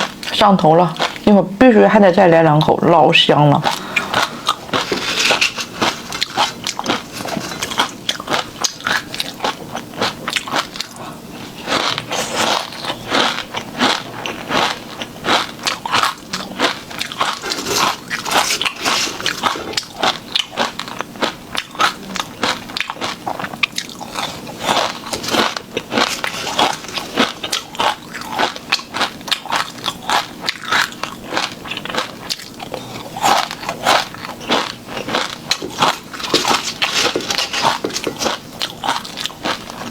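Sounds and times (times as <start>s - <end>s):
person chewing crunchy food: 0.0s - 1.3s, 3.5s - 39.9s.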